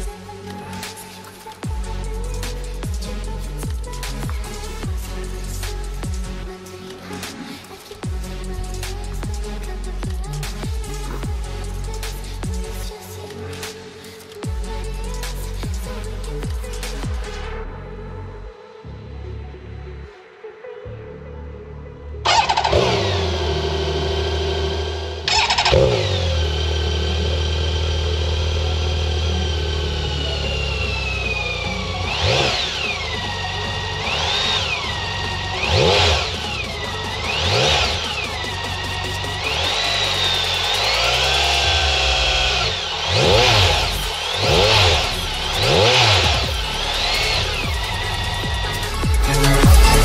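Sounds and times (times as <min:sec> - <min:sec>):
motorcycle engine starting and idling: 0:00.0 - 0:17.5, 0:22.3 - 0:50.0.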